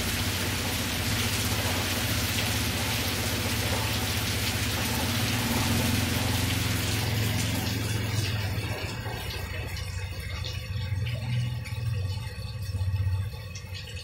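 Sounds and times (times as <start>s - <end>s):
rain falling on leaves: 0.0s - 12.9s
low steady hum: 0.0s - 14.0s.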